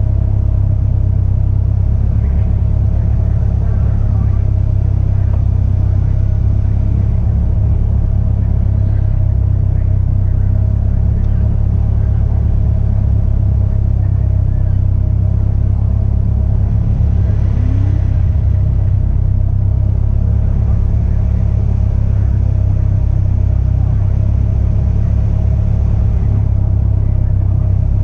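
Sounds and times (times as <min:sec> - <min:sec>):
race car engine idling: 0:00.0 - 0:28.0.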